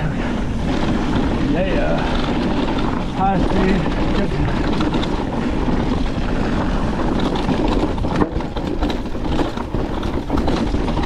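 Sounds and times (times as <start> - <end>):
bike knocks and rattles: 0.0 - 11.0
wind and tyre noise: 0.0 - 11.0.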